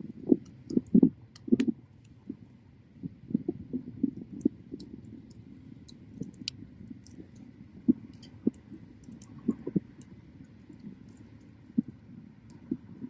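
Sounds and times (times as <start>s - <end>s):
bonfire crackling and popping: 0.0s - 2.4s, 3.0s - 13.0s.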